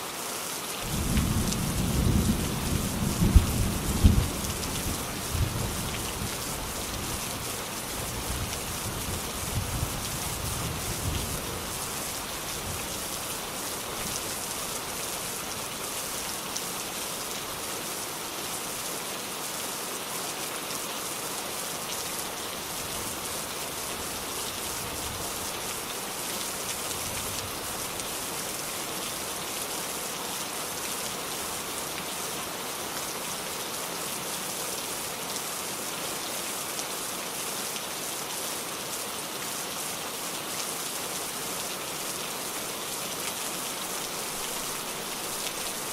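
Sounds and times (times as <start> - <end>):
steady rain pattering: 0.0 - 45.9.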